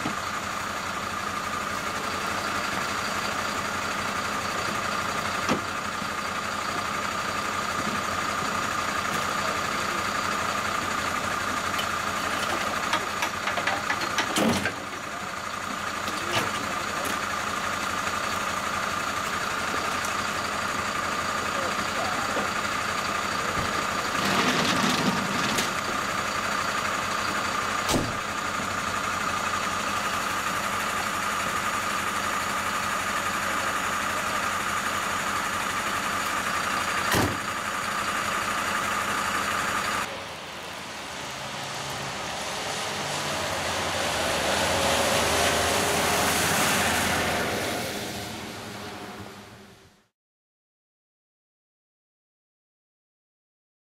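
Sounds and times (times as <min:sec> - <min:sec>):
diesel engine idling with whine: 0:00.0 - 0:50.1
fire engine driving off: 0:00.0 - 0:50.1.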